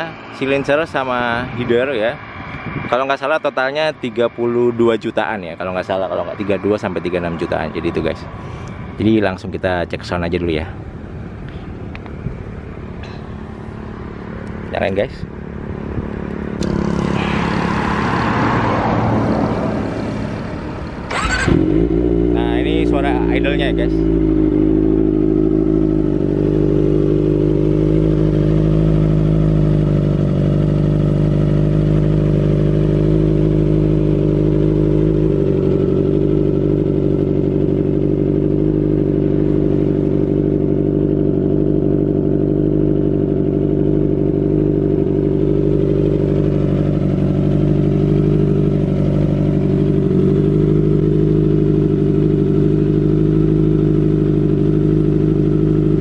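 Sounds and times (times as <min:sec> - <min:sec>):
motorcycle engine idling: 0:03.9 - 0:18.0, 0:19.5 - 0:56.0.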